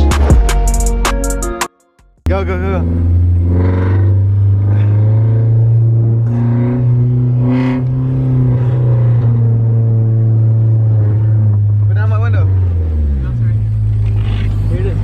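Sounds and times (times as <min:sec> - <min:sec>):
car engine low drone: 0:02.2 - 0:15.0.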